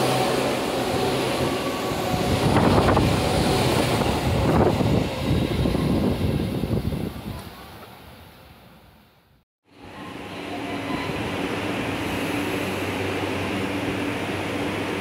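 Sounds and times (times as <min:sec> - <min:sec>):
electric train passing: 0:00.0 - 0:07.3, 0:09.7 - 0:15.0.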